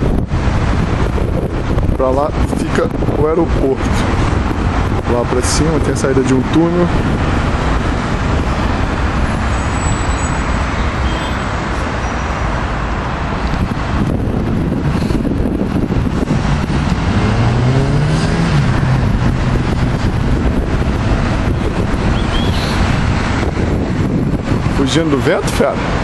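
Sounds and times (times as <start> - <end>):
road traffic: 0.0 - 26.0
wind buffeting microphone: 0.0 - 26.0
vehicle engine accelerating: 3.9 - 24.8.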